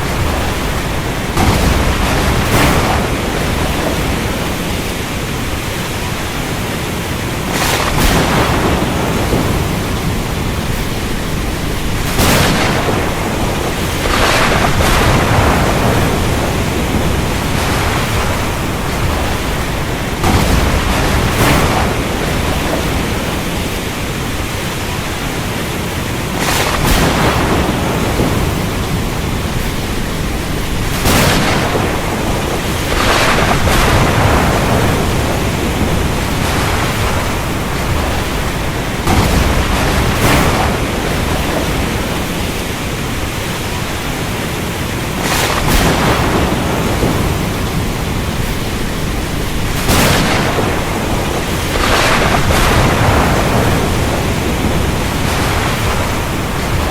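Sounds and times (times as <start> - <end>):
thunder cracks: 0.0 - 25.5, 26.2 - 43.9, 45.0 - 56.9
heavy rain: 0.0 - 56.9.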